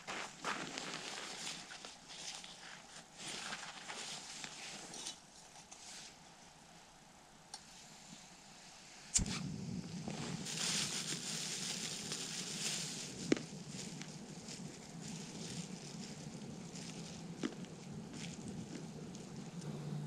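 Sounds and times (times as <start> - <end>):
camp stove burning with hiss: 0.0 - 20.0.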